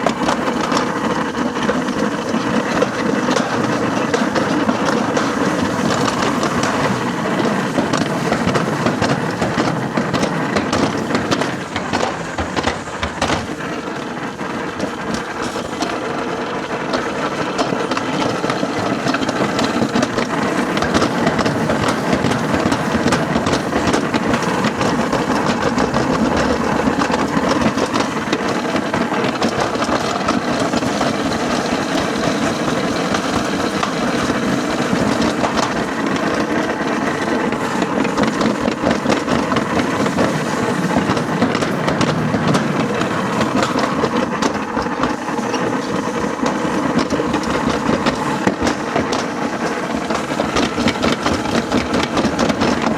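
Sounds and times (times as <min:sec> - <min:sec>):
sled rolling on metal track: 0:00.0 - 0:52.9.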